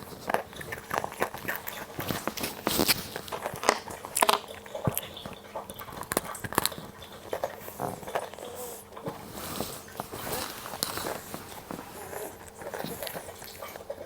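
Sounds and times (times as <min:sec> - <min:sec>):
biscuit sticks crunching: 0:00.0 - 0:14.0.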